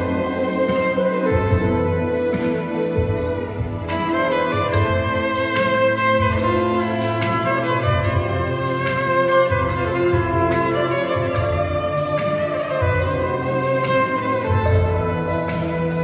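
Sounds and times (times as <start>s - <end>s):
bowed violin melody: 0.0s - 16.0s
low bass line: 0.0s - 16.0s.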